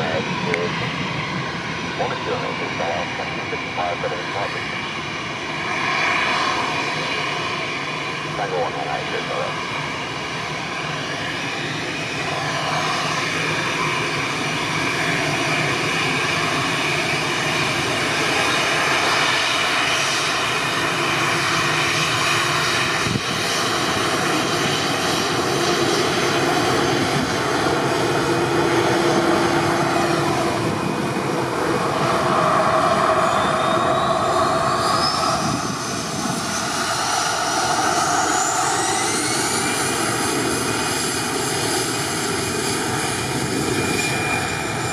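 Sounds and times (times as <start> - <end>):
jet engines whining and rumbling: 0.0 - 44.9.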